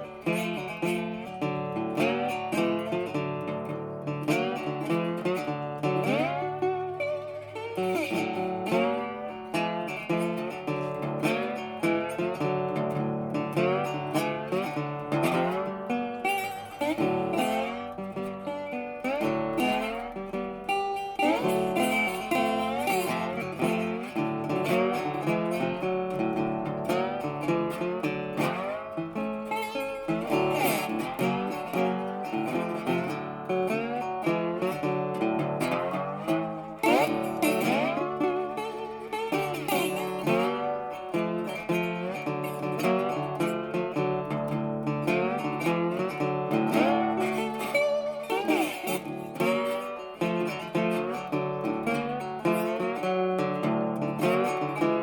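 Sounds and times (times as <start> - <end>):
plucked acoustic guitar music: 0.0 - 55.0.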